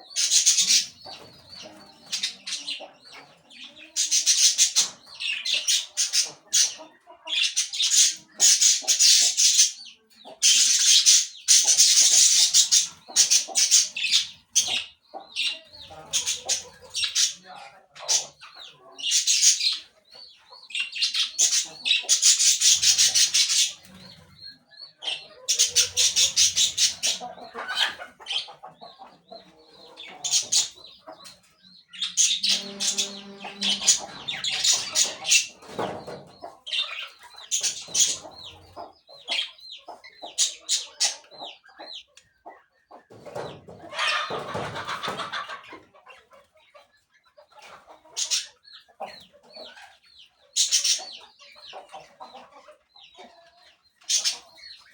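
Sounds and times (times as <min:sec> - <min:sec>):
parakeets chattering and screeching: 0:00.0 - 0:42.8, 0:47.3 - 0:54.9.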